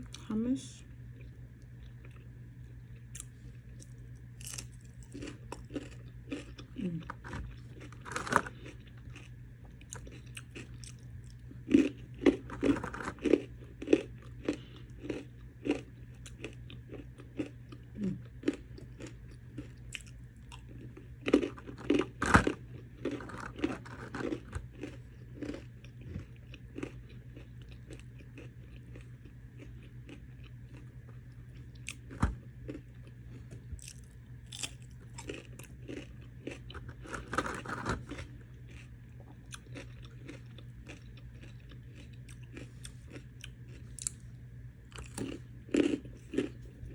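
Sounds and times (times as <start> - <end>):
steady low hum: 0.0 - 46.9
person chewing crunchy snack: 1.1 - 44.3, 44.9 - 46.9.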